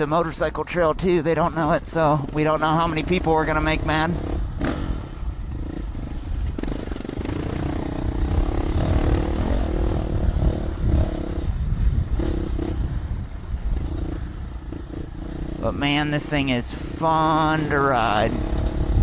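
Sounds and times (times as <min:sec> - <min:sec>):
wind rumble on microphone: 0:00.0 - 0:19.0
motorcycle engine revving: 0:01.5 - 0:19.0.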